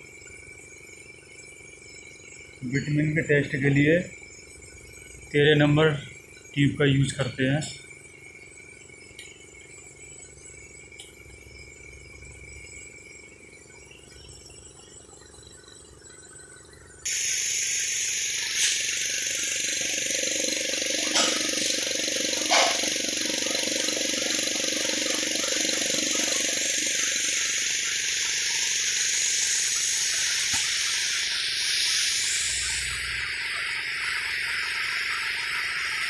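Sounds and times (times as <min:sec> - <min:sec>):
electric vacuum pump hissing: 0:00.0 - 0:13.2, 0:17.0 - 0:36.0.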